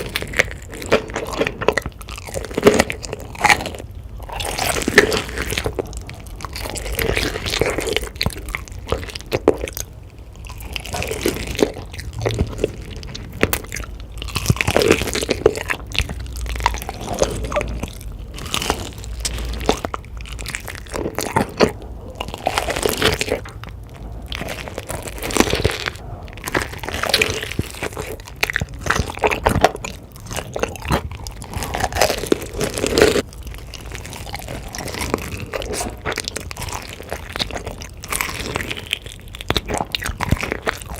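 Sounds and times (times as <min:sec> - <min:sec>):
person chewing crunchy food: 0:00.0 - 0:40.9
wet mouth sounds: 0:04.4 - 0:38.1.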